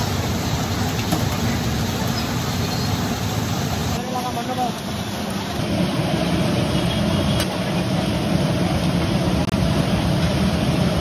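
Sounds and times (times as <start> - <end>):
constant low rumble: 0.0 - 11.0
patties sizzling in hot oil: 0.0 - 11.0.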